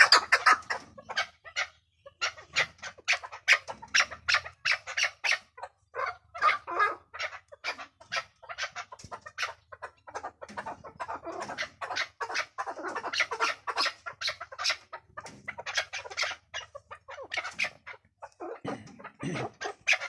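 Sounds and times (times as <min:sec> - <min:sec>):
partridge calling: 0:00.0 - 0:20.0.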